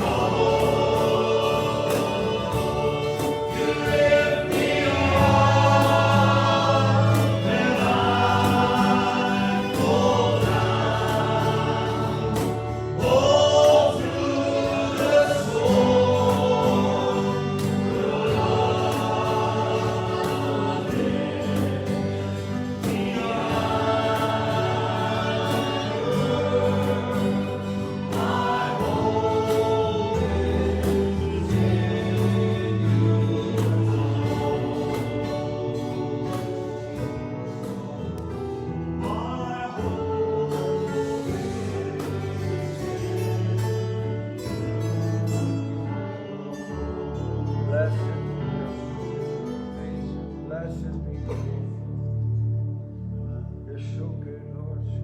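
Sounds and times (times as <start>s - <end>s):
instrumental accompaniment: 0.0s - 53.6s
congregation singing a hymn: 0.0s - 55.0s.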